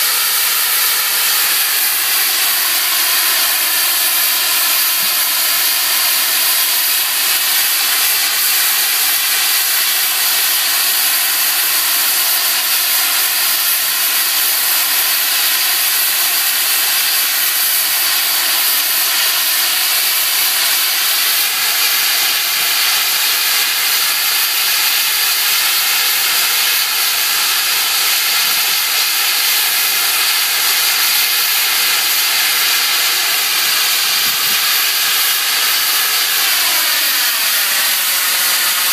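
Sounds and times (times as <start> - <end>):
hiss of escaping steam: 0.0 - 38.9.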